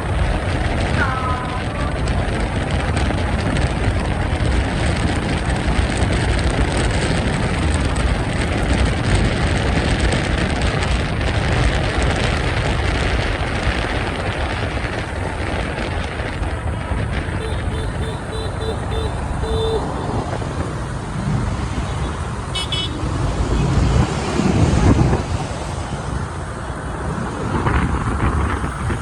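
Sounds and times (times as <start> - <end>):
road and traffic noise: 0.0 - 29.0
wind buffeting microphone: 0.0 - 29.0.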